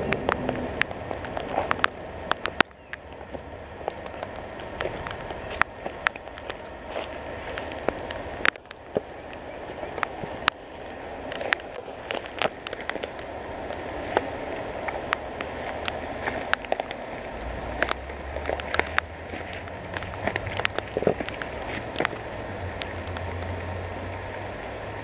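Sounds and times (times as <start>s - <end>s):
twigs clicking and snapping: 0.0s - 10.6s, 11.2s - 17.0s, 17.7s - 23.6s
low rumble: 0.0s - 25.0s
steady outdoor rush: 0.0s - 25.0s.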